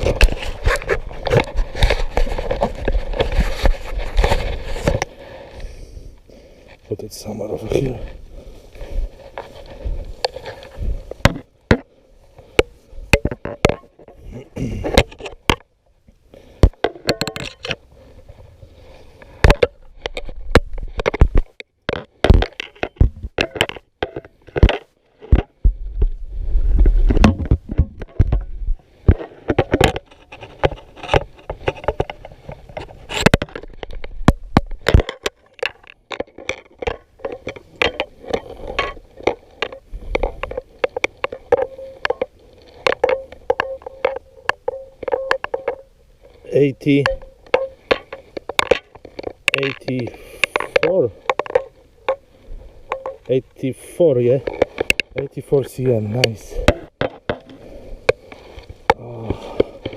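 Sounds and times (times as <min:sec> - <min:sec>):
handling clicks and scrapes: 0:00.0 - 0:15.7, 0:16.4 - 0:59.9.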